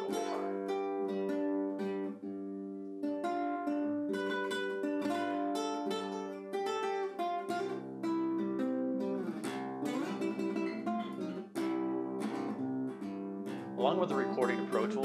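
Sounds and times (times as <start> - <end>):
classical guitar playing: 0.0 - 15.0.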